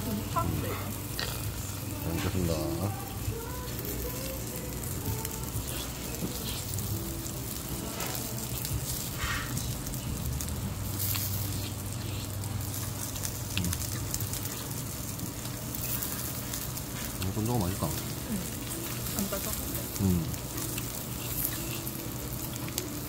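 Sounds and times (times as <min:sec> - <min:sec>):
meat sizzling on grill pan: 0:00.0 - 0:23.0.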